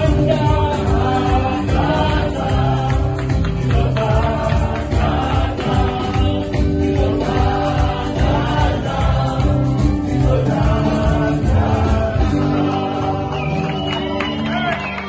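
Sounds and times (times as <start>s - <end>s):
group of voices singing: 0.0s - 14.3s
electric bass: 0.0s - 14.9s
acoustic guitar: 0.0s - 15.0s.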